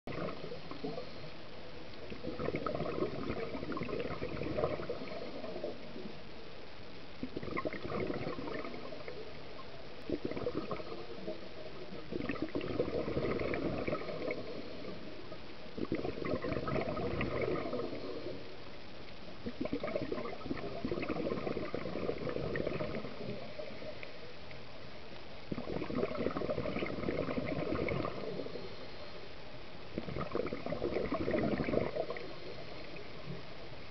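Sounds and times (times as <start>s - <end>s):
underwater breath bubbles gurgling: 0.1s - 1.4s, 2.0s - 6.2s, 7.2s - 18.8s, 19.4s - 24.3s, 25.4s - 29.3s, 29.9s - 33.9s.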